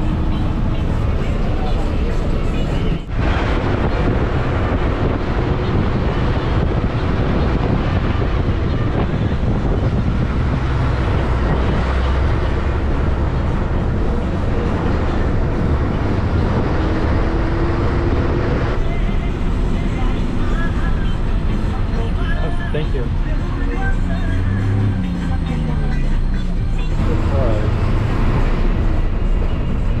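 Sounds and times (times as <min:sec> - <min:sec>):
bus engine drone: 0:00.0 - 0:30.0
road noise: 0:00.0 - 0:30.0
wind: 0:00.0 - 0:30.0.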